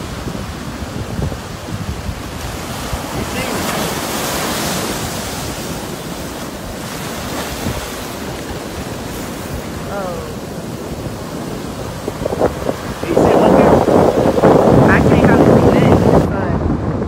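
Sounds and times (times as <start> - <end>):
small waves breaking: 0.0 - 16.4
wind on microphone: 0.0 - 17.0.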